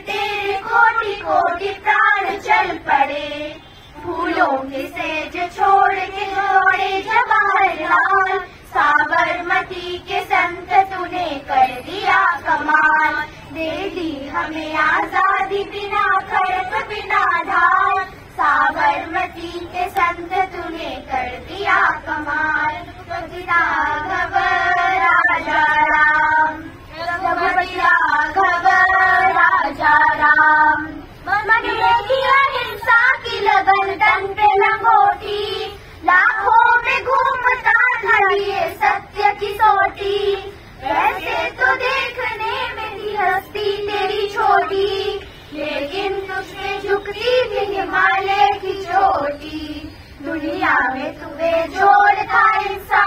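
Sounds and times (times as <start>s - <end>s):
children singing in unison: 0.0s - 53.0s.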